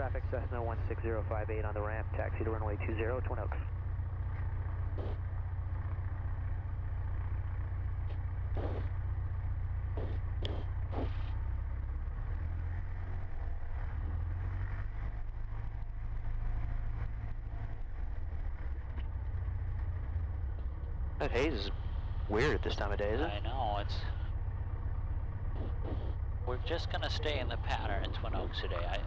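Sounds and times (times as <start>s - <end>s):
aircraft engine droning: 0.0s - 29.0s.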